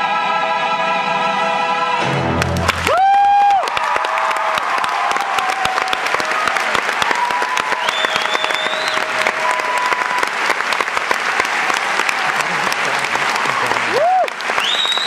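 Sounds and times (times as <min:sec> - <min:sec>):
audience applauding: 0:02.3 - 0:15.0.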